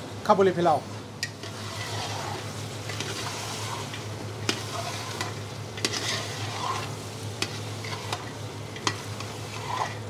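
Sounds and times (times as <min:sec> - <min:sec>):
meat sizzling in a pot: 0:01.2 - 0:10.0
metal spoon stirring: 0:01.2 - 0:10.0.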